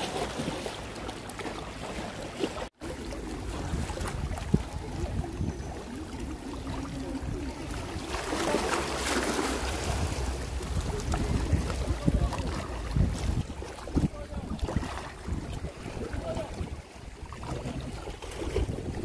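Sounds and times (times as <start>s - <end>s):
sea water lapping: 0.0s - 19.0s
wind buffeting microphone: 2.8s - 19.0s.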